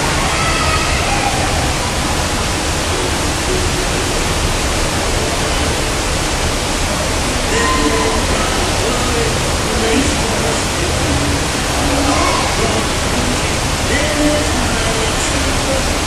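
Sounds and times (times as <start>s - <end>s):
steady rushing noise in pool hall: 0.0s - 16.0s.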